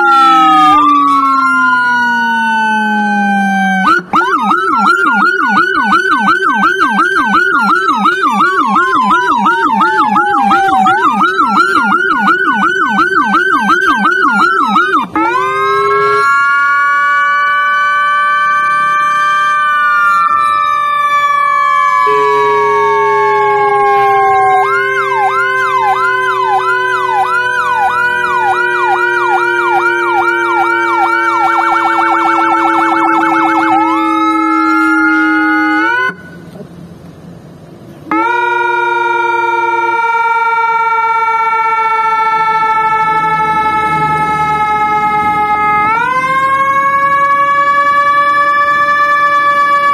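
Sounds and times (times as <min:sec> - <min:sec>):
electronic siren wailing: 0:00.0 - 0:36.4, 0:38.1 - 0:49.9.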